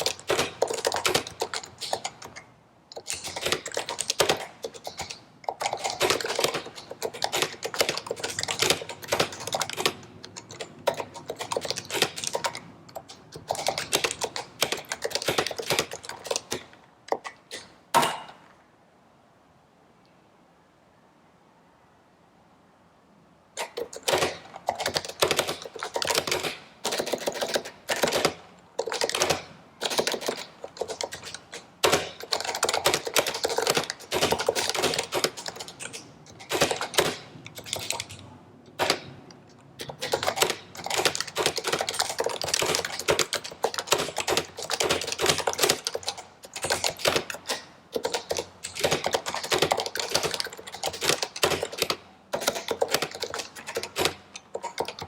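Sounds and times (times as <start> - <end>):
keyboard typing: 0.0 - 18.5, 23.6 - 55.0.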